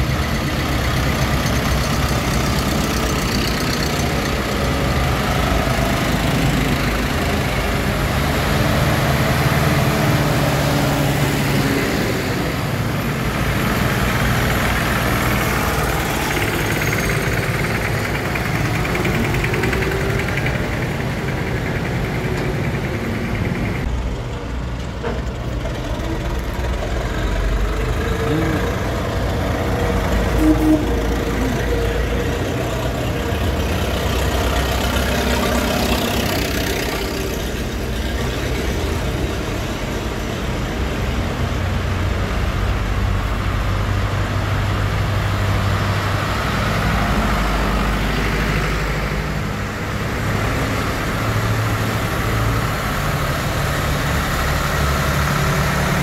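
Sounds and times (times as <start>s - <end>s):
tractor engines running slowly: 0.0s - 56.0s.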